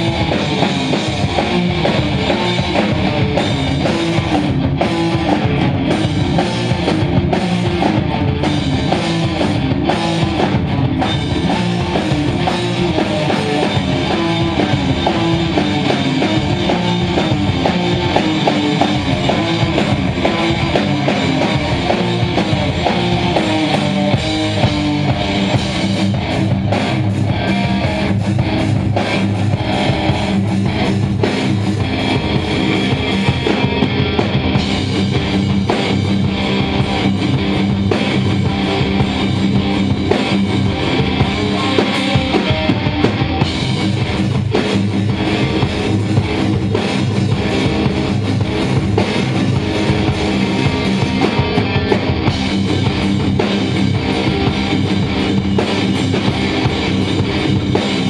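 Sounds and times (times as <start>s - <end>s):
loud rock music: 0.0s - 58.0s.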